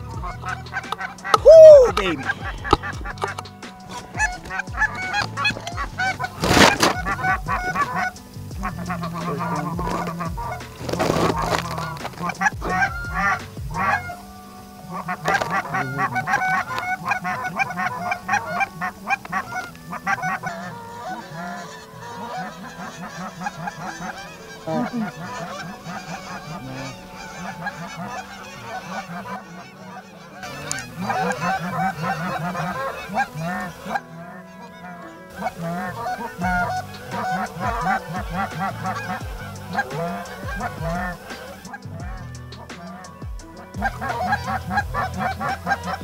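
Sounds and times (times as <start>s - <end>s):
geese honking: 0.0s - 46.0s.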